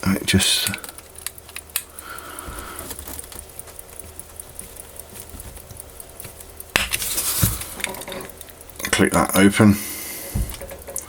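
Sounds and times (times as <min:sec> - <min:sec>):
tool clicking on watch: 0:00.0 - 0:11.0.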